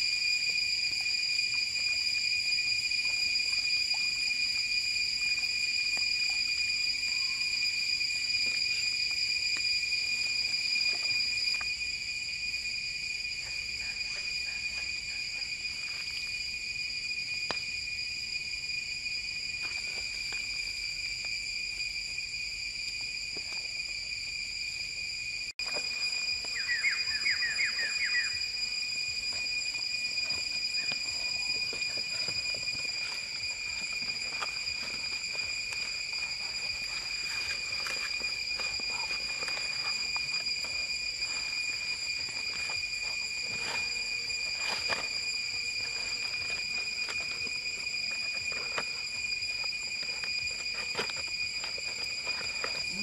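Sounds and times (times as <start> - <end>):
insect chorus drone: 0.0 - 53.0.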